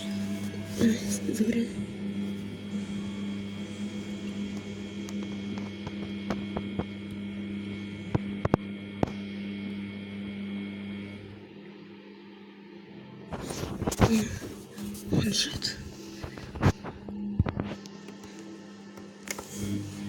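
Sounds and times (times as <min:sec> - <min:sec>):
washing machine electrical hum: 0:00.0 - 0:12.2, 0:12.9 - 0:20.0.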